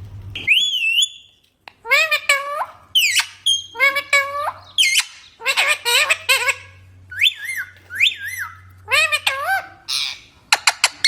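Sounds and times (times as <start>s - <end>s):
parrots squawking and whistling: 0.4s - 11.0s.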